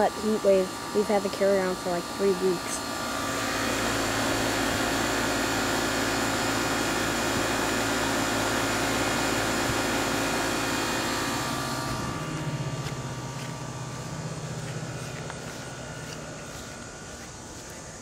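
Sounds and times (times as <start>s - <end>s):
compressor electrical hum: 0.0s - 18.0s
fan air rushing: 0.0s - 18.0s.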